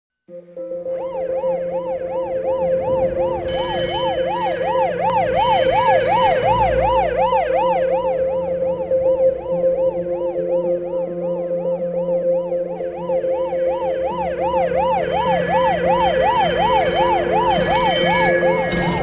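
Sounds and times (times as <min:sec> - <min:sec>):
steady higher tone: 0:00.3 - 0:19.0
steady low tone: 0:00.3 - 0:19.0
siren yelping: 0:00.9 - 0:19.0.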